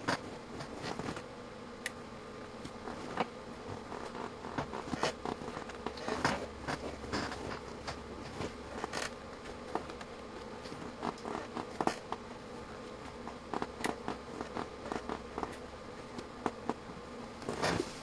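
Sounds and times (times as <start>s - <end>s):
small clicks and crackles: 0.0s - 17.8s
steady electrical buzz: 0.0s - 18.0s.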